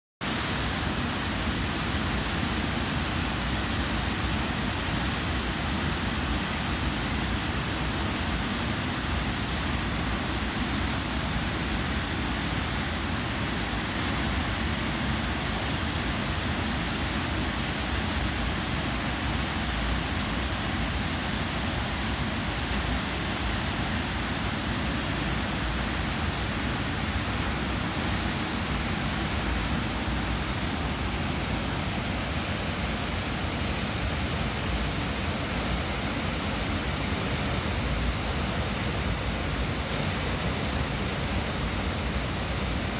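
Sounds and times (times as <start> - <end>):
water rushing over dam spillway: 0.2 - 42.9.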